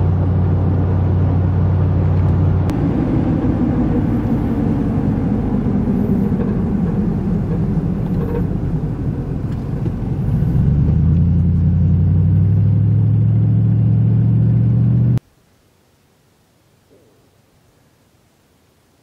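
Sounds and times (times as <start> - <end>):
truck engine and road noise: 0.0 - 15.2.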